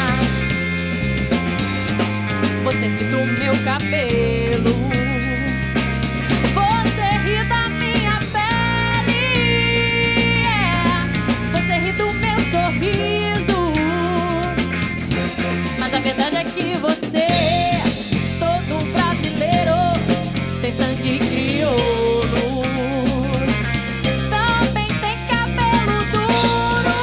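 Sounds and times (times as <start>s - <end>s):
band music with drums: 0.0s - 27.0s.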